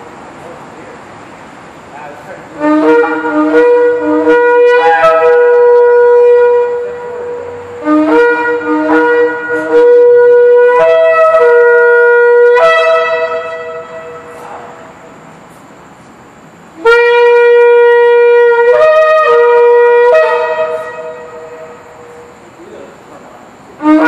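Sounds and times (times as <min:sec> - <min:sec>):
shofars blowing: 0:02.0 - 0:24.0.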